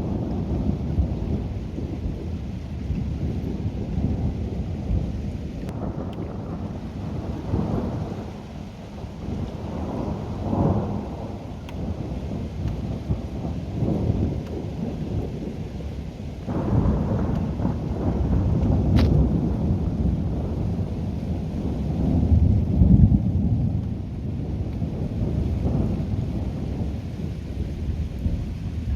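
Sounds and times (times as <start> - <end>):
steady rain: 0.0 - 28.9
thunder rumbling: 0.0 - 28.9.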